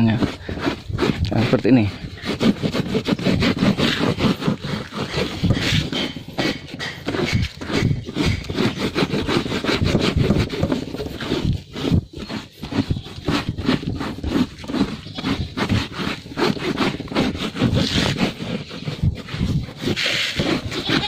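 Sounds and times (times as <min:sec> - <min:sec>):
hand scrubbing foamy upholstery: 0:00.0 - 0:21.0.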